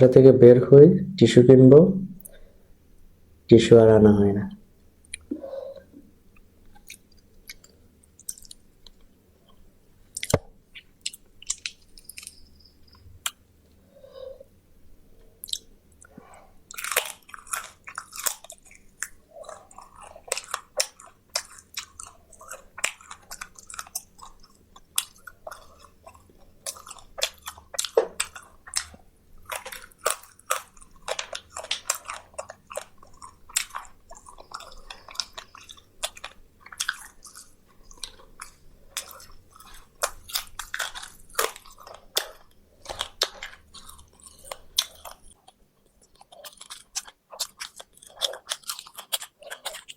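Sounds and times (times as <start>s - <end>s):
person chewing crispy food: 5.0s - 13.9s, 15.2s - 49.9s.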